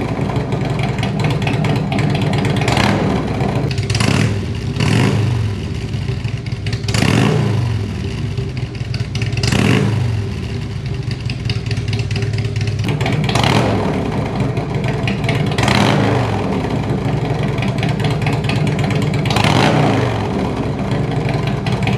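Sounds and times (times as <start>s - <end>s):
motorcycle engine idling and revving: 0.0s - 21.9s.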